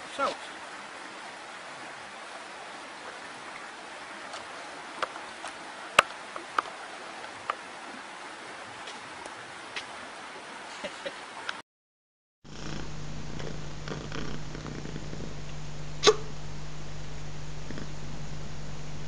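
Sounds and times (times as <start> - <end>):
running water hiss: 0.0 - 11.6, 12.5 - 19.0.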